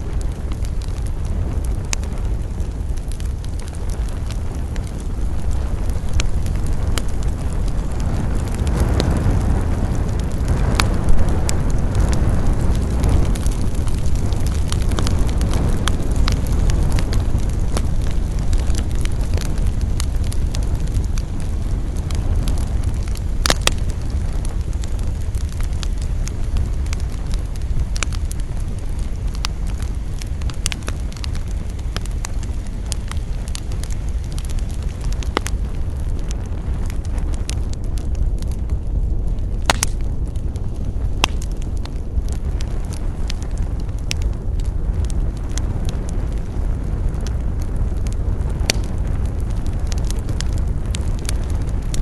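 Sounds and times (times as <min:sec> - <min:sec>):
campfire crackling and popping: 0:00.0 - 0:52.0
steady low rumble: 0:00.0 - 0:52.0.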